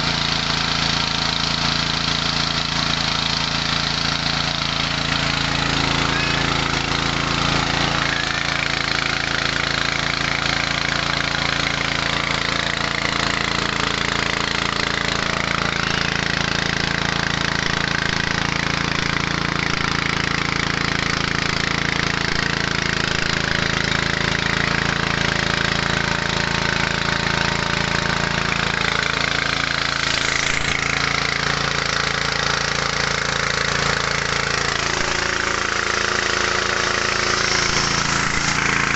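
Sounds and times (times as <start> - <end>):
rice mill mechanical rush: 0.0 - 38.9
small petrol engine running: 0.0 - 38.9.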